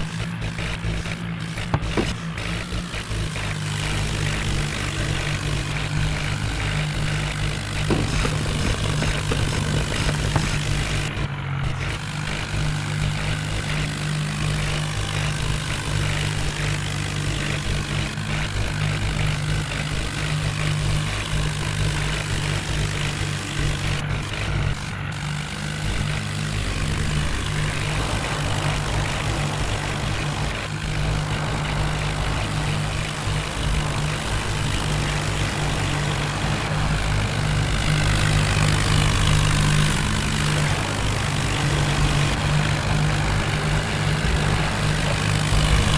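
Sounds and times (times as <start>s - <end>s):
diesel machinery engine running: 0.0s - 45.9s.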